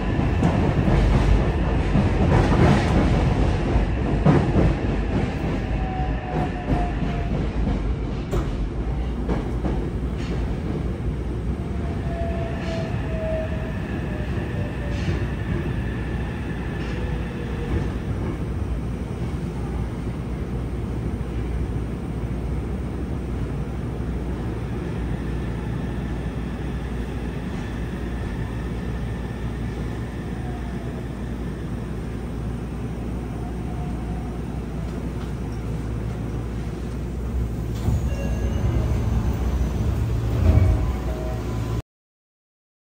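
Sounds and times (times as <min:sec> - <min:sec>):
train wheels rumbling on rail: 0:00.0 - 0:41.8.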